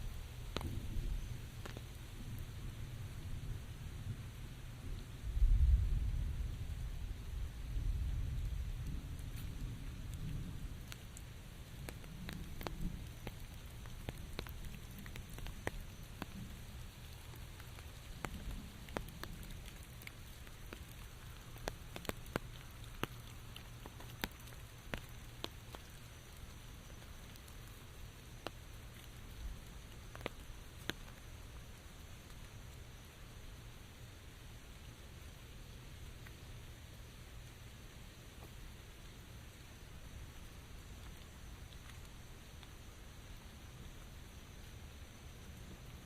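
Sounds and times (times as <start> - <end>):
raindrops ticking on a surface: 0.0 - 46.0
steady rain hiss: 0.0 - 46.0.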